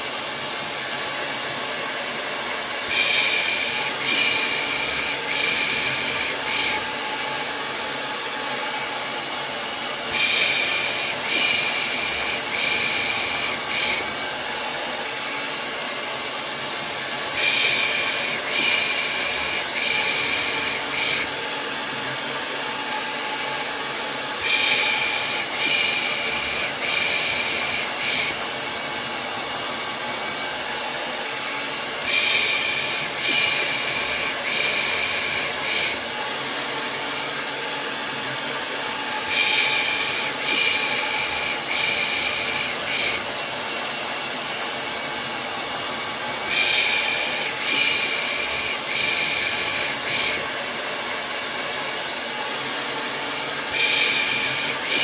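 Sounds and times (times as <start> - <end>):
hair dryer whooshing: 0.0 - 55.0.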